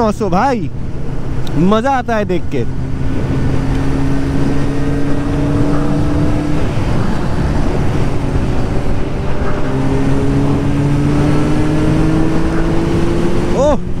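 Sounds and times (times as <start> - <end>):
wind rush: 0.0 - 14.0
motorcycle engine revving: 2.4 - 14.0.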